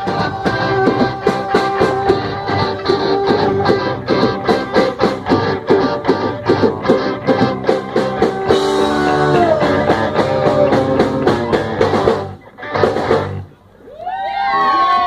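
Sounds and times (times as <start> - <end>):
drum beat: 0.0 - 13.4
rock band playing: 0.0 - 13.6
electric guitar: 0.0 - 15.0.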